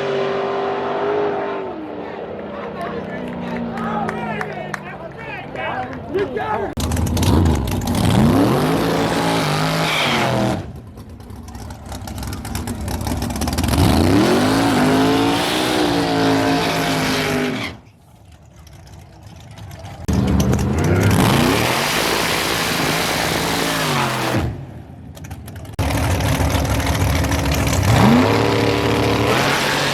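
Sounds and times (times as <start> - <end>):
car engines accelerating hard: 0.0 - 6.1, 6.7 - 17.8, 18.4 - 29.9.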